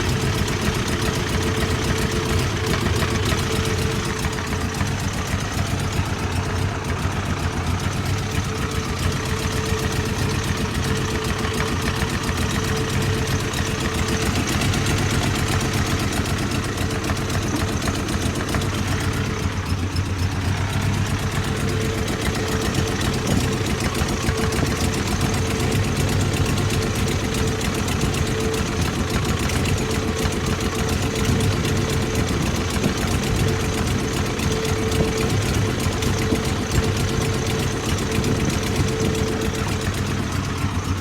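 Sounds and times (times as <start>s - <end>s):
engine idling roughly: 0.0s - 41.0s.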